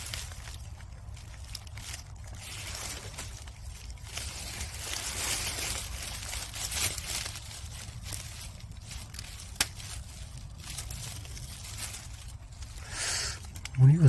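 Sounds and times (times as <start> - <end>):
dry leaves rustling and crunching: 0.0 - 14.0
steady low rumble: 0.0 - 14.0.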